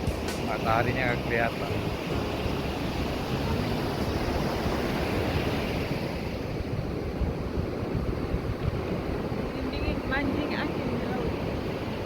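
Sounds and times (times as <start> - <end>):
sea waves washing onto shore: 0.0 - 12.0
wind gusting over microphone: 0.0 - 12.0.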